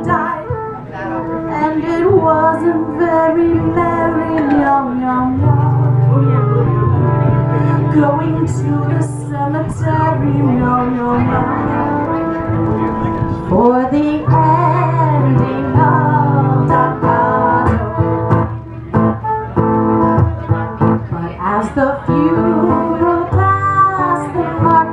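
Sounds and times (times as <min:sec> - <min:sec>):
person singing: 0:00.0 - 0:12.8, 0:13.4 - 0:18.7, 0:21.1 - 0:24.9
acoustic guitar playing: 0:00.0 - 0:24.9
held gliding notes: 0:00.0 - 0:24.9.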